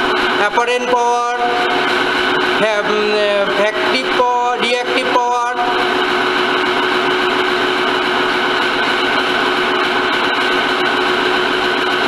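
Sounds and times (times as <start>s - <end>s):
machine drone with whine: 0.0s - 12.0s.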